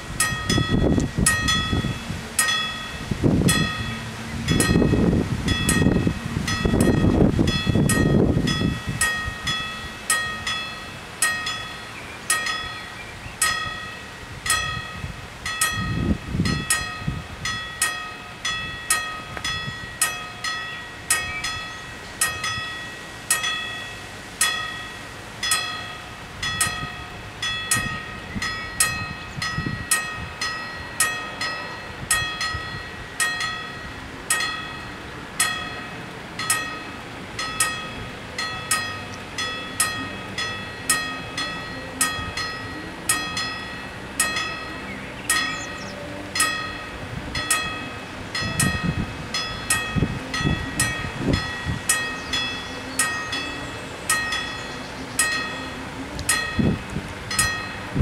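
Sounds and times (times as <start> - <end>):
electric warning bells ringing: 0.0 - 58.0.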